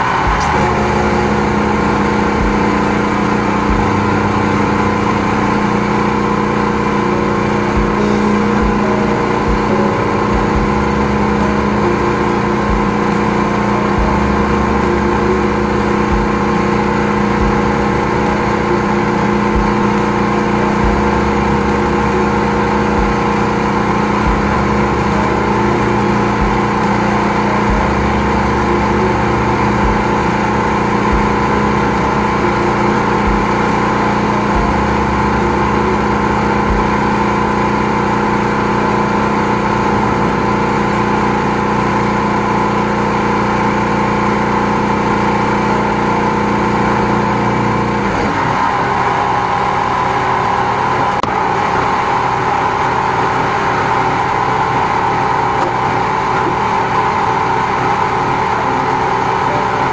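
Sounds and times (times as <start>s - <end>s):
engine-driven pump running: 0.0s - 59.9s
low throb: 0.0s - 59.9s.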